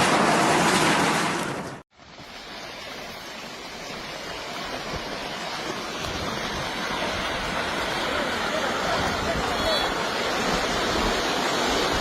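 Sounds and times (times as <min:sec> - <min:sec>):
landslide rushing: 0:00.0 - 0:12.0.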